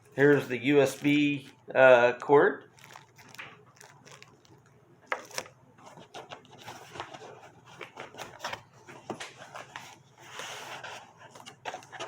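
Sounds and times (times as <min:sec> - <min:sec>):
packaging clicks and rustles: 0:00.2 - 0:01.5, 0:02.7 - 0:12.0.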